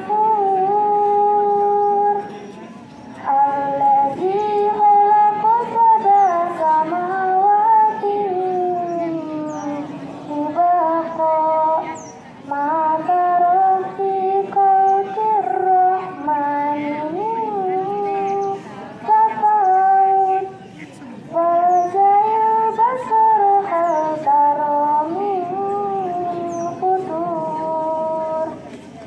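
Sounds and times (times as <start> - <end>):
girl chanting recitation: 0.0 - 28.7.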